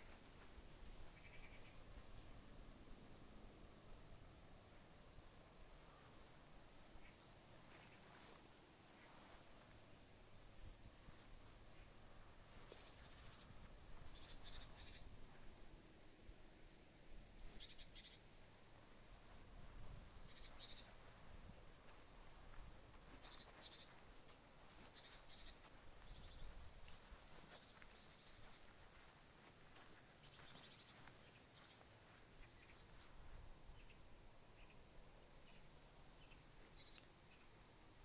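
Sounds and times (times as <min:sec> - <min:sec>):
faint outdoor ambience: 0:00.0 - 0:38.0.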